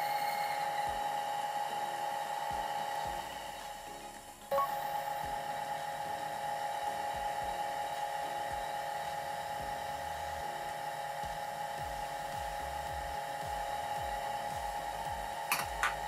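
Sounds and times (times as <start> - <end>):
lathe whining: 0.0 - 16.0.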